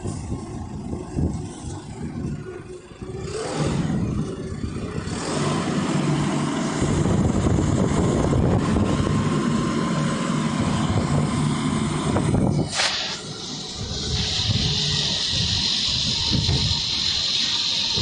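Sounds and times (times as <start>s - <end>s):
concrete mixer engine running: 0.0s - 18.0s.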